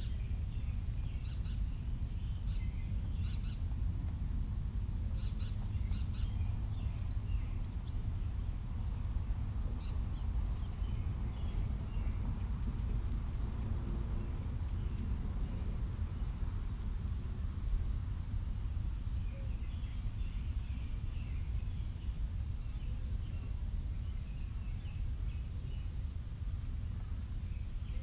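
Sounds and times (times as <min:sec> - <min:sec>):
small birds chirping: 0:00.0 - 0:04.1, 0:05.1 - 0:17.8, 0:18.8 - 0:28.0
steady low rumble: 0:00.0 - 0:28.0.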